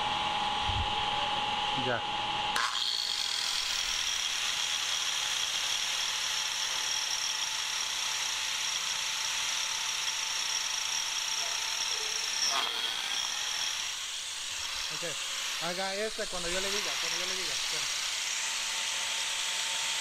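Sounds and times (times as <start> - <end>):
orbital sander on wood: 2.6 - 20.0.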